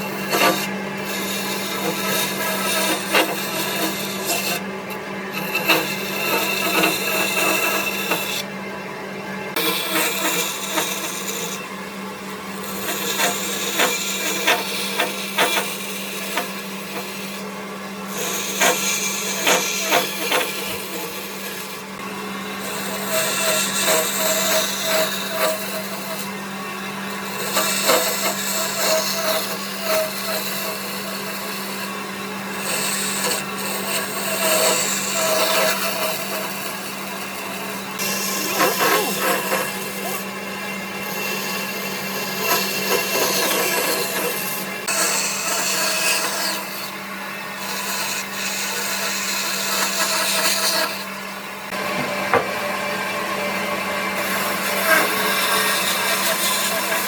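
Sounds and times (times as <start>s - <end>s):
tool scraping wood: 0.0s - 8.5s, 9.5s - 11.8s, 12.5s - 26.4s, 27.1s - 53.1s, 54.1s - 57.0s.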